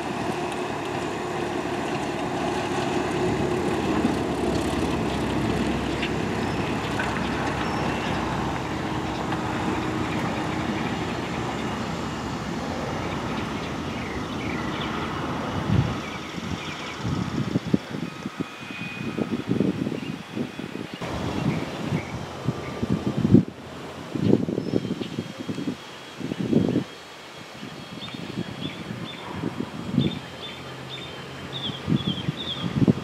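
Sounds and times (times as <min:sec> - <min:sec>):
airplane engine droning: 0:00.0 - 0:33.0.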